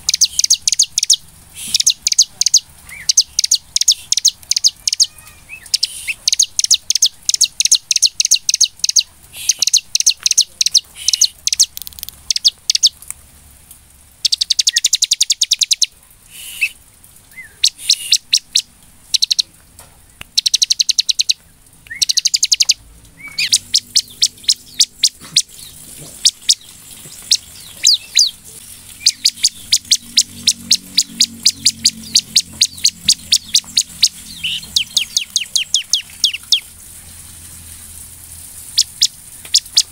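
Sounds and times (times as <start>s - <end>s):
bird chirping rapidly: 0.0s - 13.0s, 14.2s - 19.5s, 20.1s - 36.8s, 38.6s - 39.9s.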